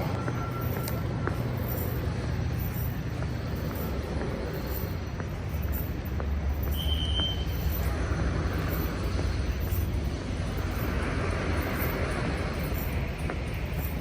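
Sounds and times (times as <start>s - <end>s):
low street rumble: 0.0s - 14.0s
passing traffic hiss: 0.0s - 14.0s.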